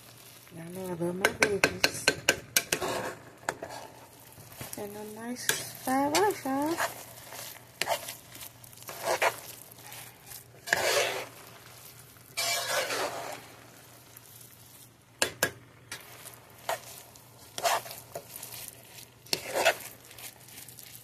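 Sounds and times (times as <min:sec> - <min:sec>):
faint sizzle: 0:00.0 - 0:21.0
spatula scraping pan: 0:00.3 - 0:15.3, 0:15.9 - 0:21.0.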